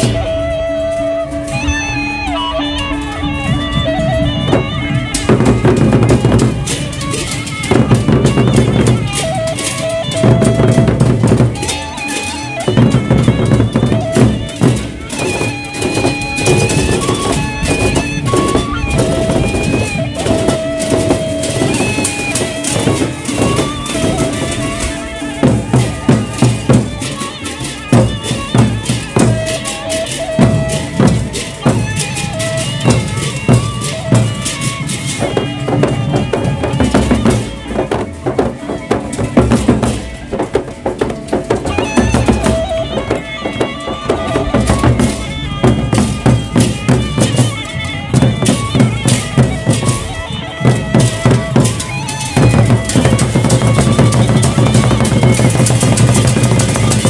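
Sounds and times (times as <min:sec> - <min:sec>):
cymbals: 0:00.0 - 0:57.0
drums struck fast: 0:03.6 - 0:57.0.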